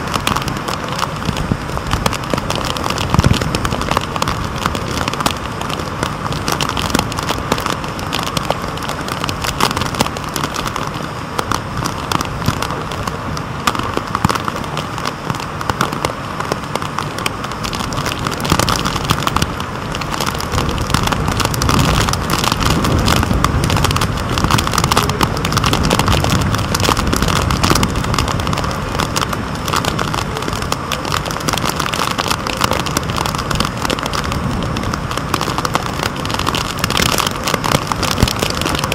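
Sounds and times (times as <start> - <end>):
rain beating on camera housing: 0.0 - 38.9.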